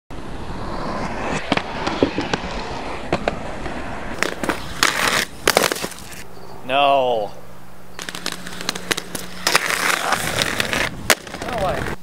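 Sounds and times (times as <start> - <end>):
skate wheels rolling on concrete: 0.1 - 12.0.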